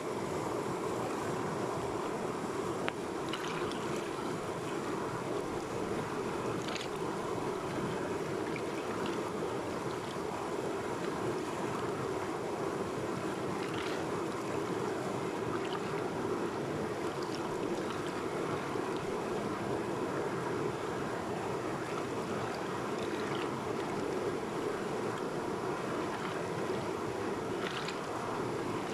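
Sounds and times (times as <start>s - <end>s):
water rushing over rocks: 0.0s - 28.9s.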